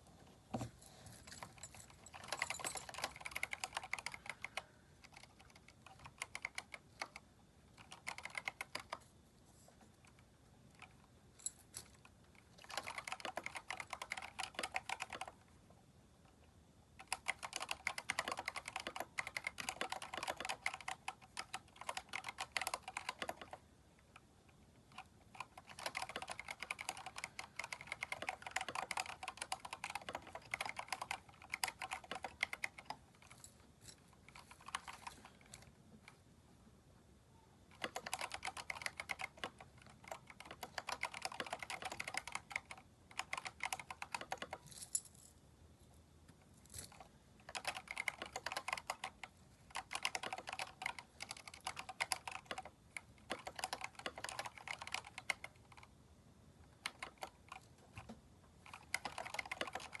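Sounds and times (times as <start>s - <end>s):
typing on mechanical keyboard: 1.4s - 9.1s, 11.8s - 15.5s, 17.0s - 24.3s, 24.9s - 33.4s, 34.2s - 36.2s, 37.7s - 44.6s, 46.9s - 56.0s, 56.6s - 60.0s.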